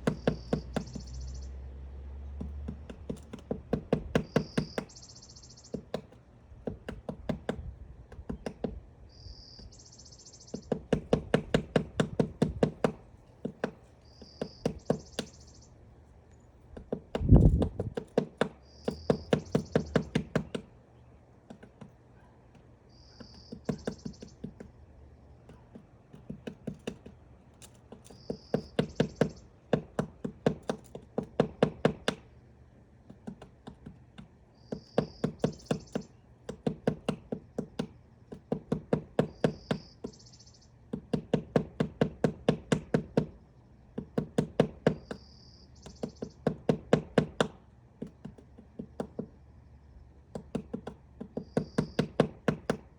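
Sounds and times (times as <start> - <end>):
woodpecker pecking wood: 0.0 - 1.6, 2.2 - 52.9.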